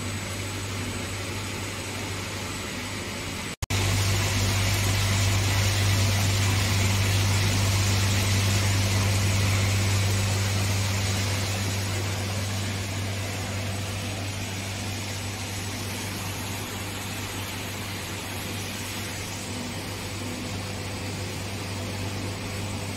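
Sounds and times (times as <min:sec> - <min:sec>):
low electrical hum: 0:00.0 - 0:22.9.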